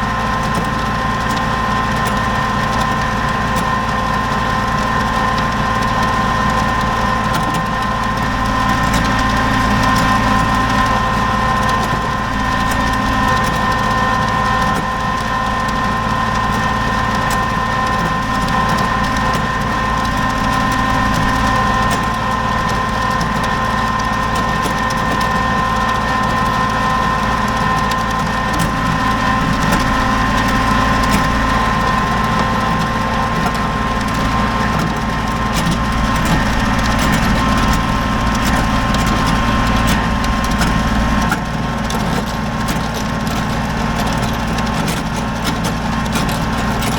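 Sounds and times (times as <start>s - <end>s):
tractor diesel engine whining: 0.0s - 46.9s
gravel crunching and clicking: 0.1s - 46.9s.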